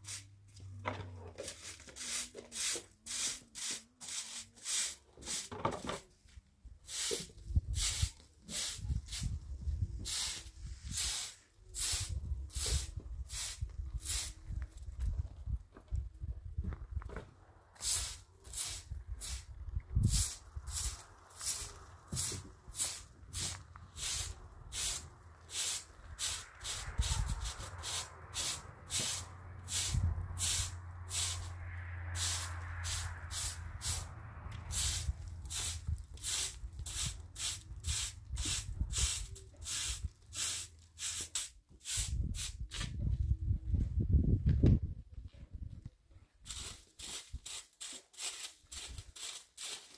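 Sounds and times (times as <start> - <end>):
broom sweeping concrete: 0.0 - 0.6, 1.3 - 6.1, 6.8 - 14.9, 17.8 - 43.0, 46.4 - 49.9.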